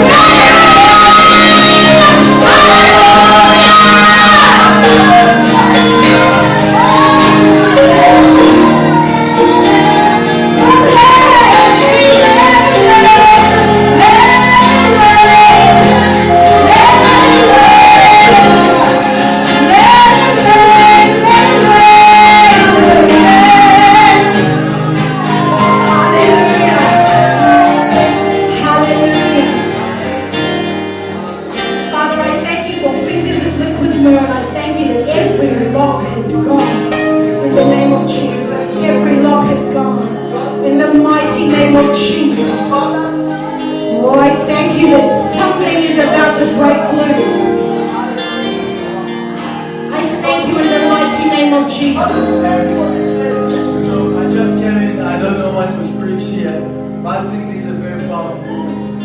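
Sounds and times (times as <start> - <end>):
worship music with singing: 0.0 - 59.0.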